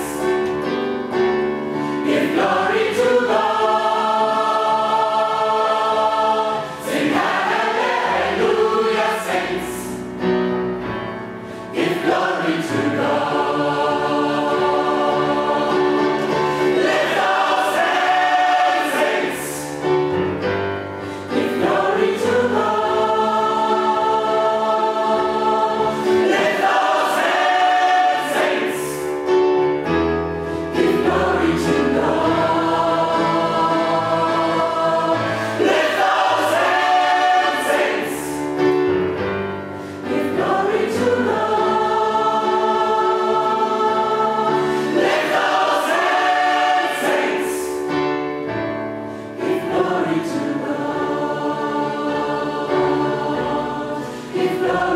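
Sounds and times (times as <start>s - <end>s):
choir singing gospel: 0.0s - 54.9s.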